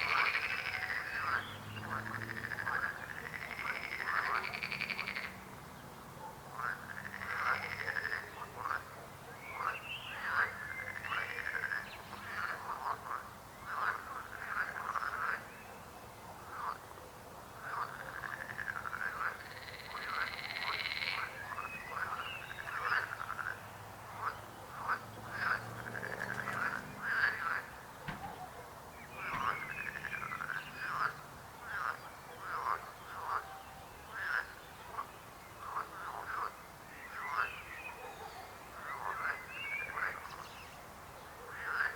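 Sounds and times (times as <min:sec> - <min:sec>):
frogs croaking: 0:00.0 - 0:05.8, 0:06.5 - 0:40.5, 0:41.5 - 0:41.9.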